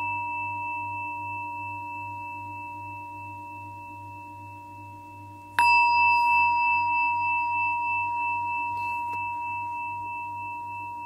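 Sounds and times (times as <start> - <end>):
singing bowl ringing: 0.0 - 11.0.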